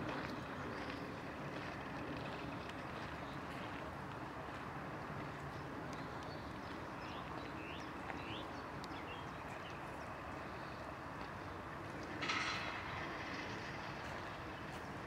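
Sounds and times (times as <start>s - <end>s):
low outdoor rumble and hiss: 0.0s - 15.0s.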